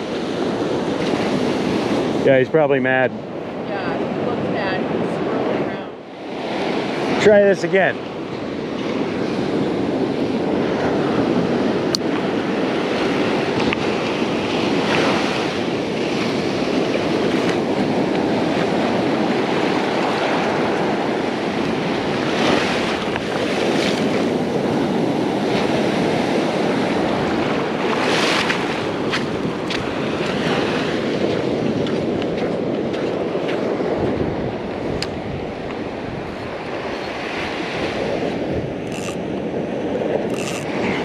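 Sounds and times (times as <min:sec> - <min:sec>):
ocean surf washing onto beach: 0:00.0 - 0:41.0
waves breaking: 0:00.0 - 0:41.0.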